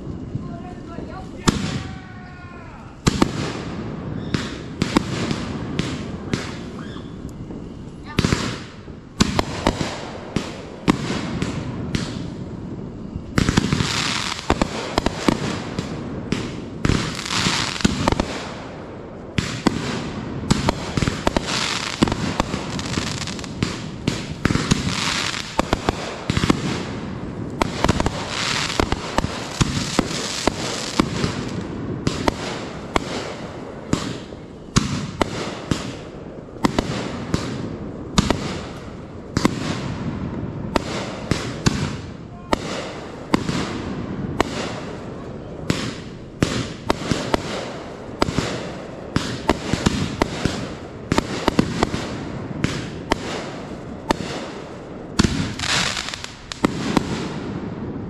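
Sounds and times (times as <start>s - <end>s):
fireworks bangs: 0.0s - 58.0s
fireworks hissing and crackling: 0.0s - 58.0s.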